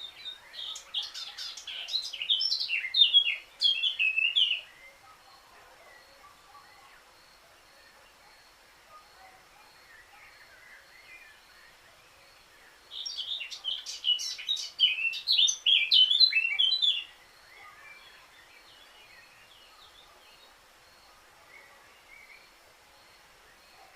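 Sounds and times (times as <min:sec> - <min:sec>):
bird warbling song: 0:00.0 - 0:07.3, 0:09.1 - 0:22.6
faint distant bird calls: 0:00.0 - 0:23.9.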